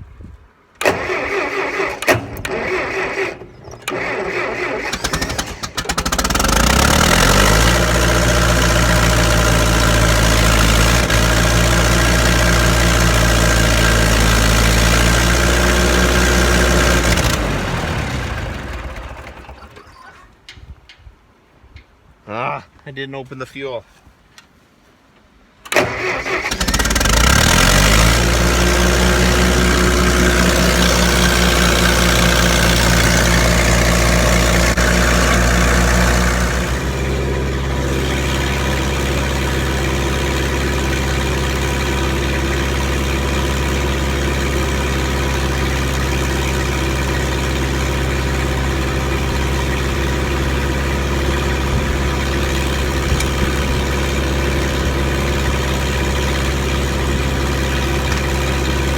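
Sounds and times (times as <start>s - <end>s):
tractor engine starting and running: 0.6s - 20.5s, 25.6s - 58.9s.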